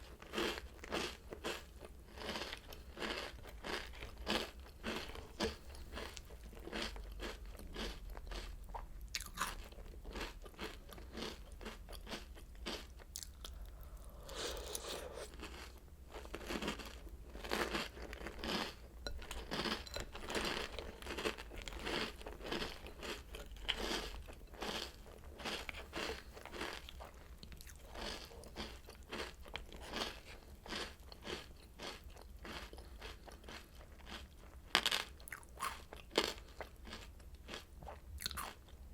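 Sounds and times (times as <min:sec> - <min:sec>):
chewing crunchy cereal: 0:00.0 - 0:38.8.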